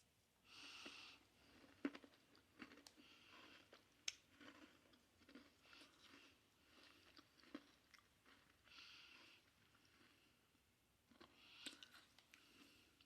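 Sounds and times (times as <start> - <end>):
cookie crunching while chewing: 0.7 - 13.0.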